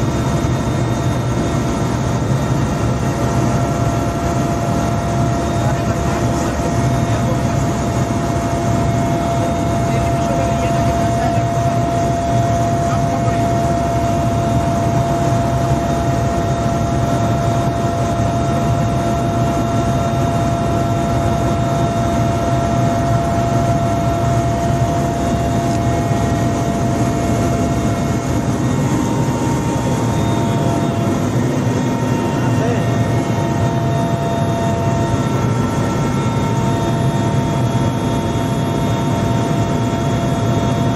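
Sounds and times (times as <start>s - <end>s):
helicopter engine drone inside cabin: 0.0s - 40.9s
high turbine whine: 0.0s - 40.9s.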